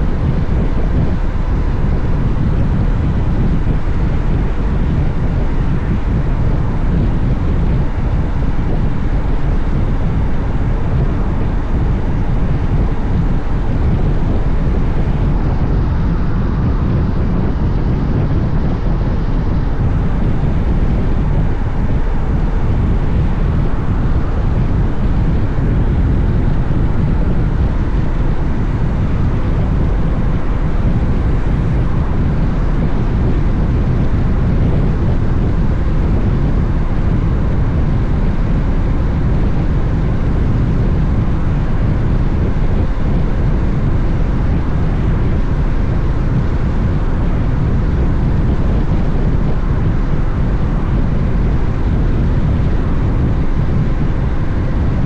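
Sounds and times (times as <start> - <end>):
motorcycle engine and road noise: 0.0 - 54.9
wind rushing over microphone: 0.0 - 55.0.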